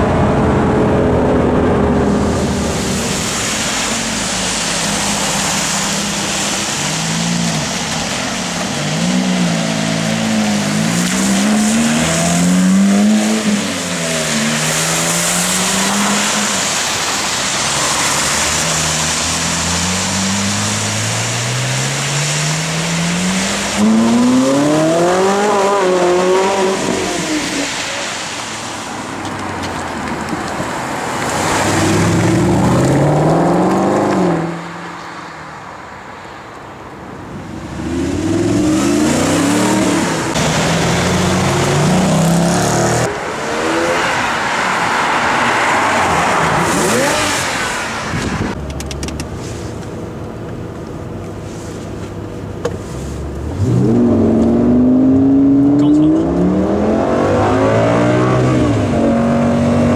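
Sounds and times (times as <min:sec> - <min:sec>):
supercar engines revving: 0:00.0 - 0:28.4, 0:30.5 - 0:35.0, 0:37.4 - 0:49.1, 0:53.0 - 0:59.9.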